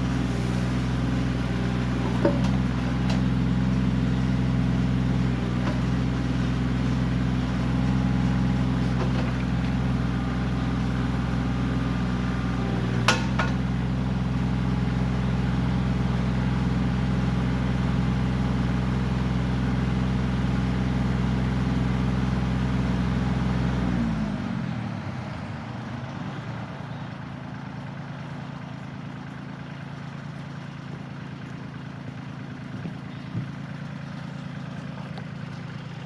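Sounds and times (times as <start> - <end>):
diesel tractor engine: 0.0 - 36.0.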